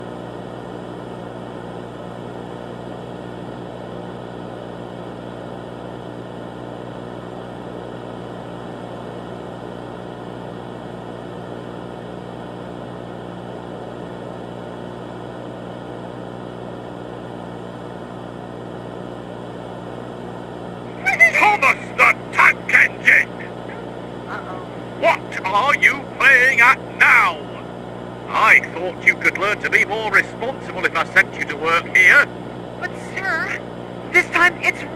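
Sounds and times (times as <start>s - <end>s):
drone of hum and hiss: 0.0s - 34.9s.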